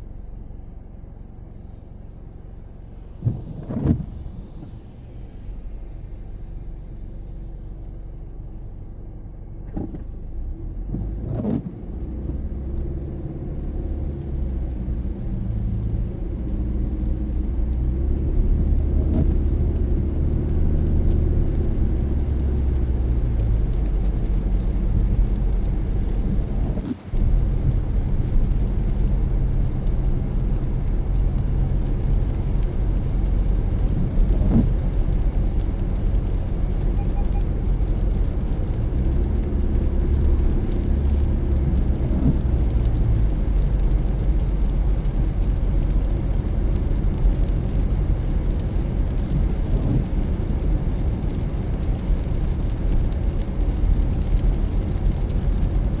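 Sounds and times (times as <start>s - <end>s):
car engine hum: 0.0s - 56.0s
road noise: 0.0s - 56.0s.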